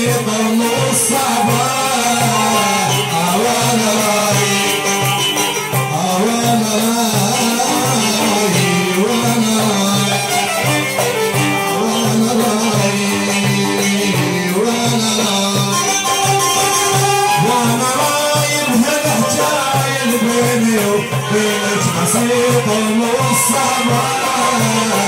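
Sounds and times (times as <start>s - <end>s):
hand drums beat: 0.0s - 25.0s
man singing into a microphone: 0.0s - 25.0s
oud: 0.0s - 25.0s
violin: 0.0s - 25.0s.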